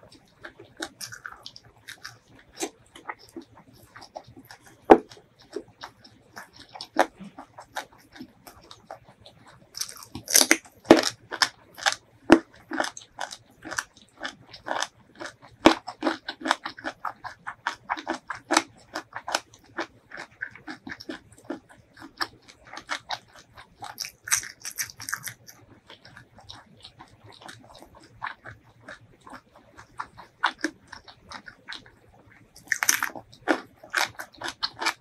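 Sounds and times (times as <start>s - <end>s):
chewing with wet clicks: 0.0s - 35.0s.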